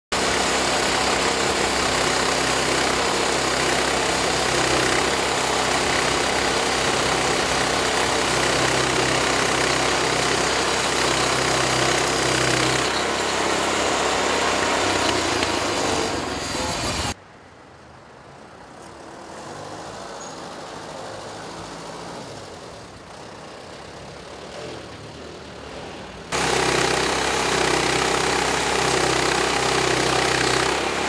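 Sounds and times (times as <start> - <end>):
sawmill engine running: 0.1 - 17.2, 19.4 - 31.0.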